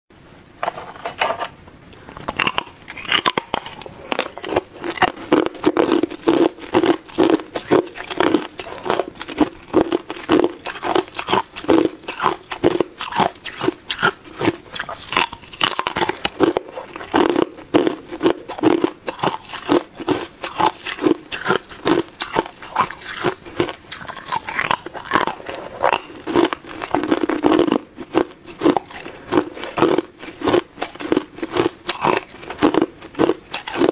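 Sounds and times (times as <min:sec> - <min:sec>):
ice being chewed: 0:00.9 - 0:33.9.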